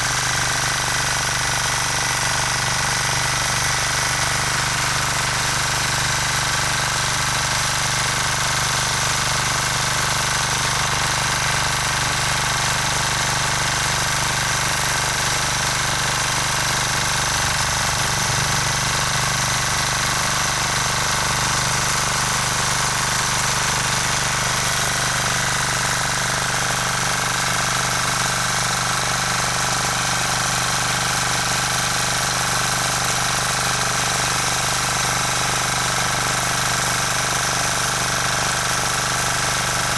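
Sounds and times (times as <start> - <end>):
rotary tiller churning soil: 0.0 - 39.9
tractor engine running: 0.0 - 39.9.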